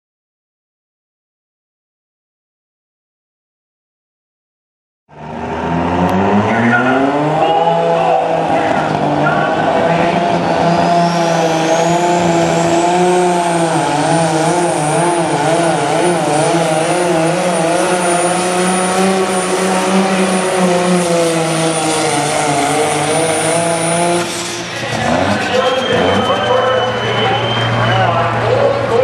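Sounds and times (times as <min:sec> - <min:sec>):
turbo whine: 0:05.1 - 0:28.8
diesel engine at full power: 0:05.1 - 0:29.0.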